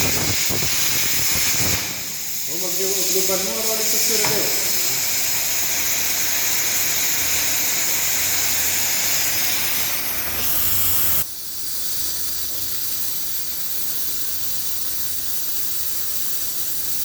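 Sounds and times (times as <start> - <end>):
plasma cutting torch hissing: 0.0 - 17.0.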